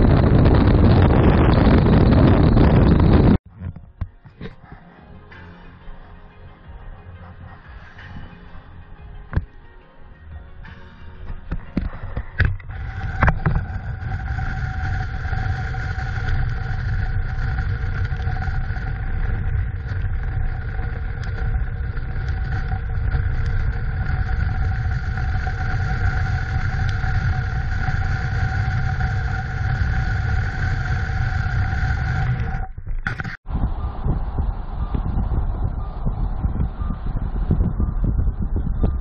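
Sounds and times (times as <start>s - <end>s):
wind and road noise: 0.0s - 5.4s, 10.6s - 39.0s
faint steady whine: 0.0s - 39.0s.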